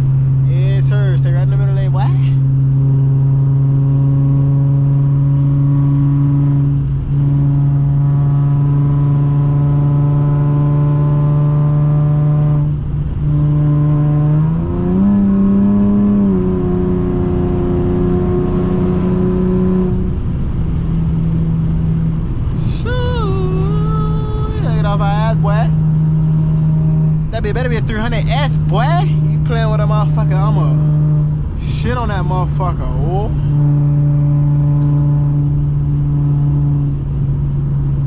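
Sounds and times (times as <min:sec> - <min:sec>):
car engine cruising: 0:00.0 - 0:38.0.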